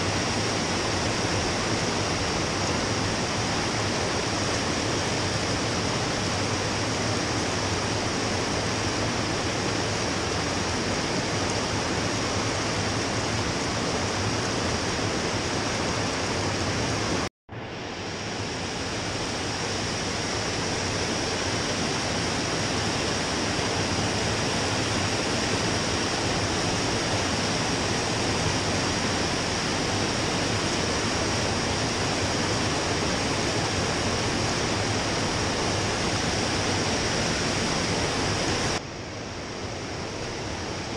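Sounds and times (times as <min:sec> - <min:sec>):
flowing water in a stream: 0:00.0 - 0:40.9.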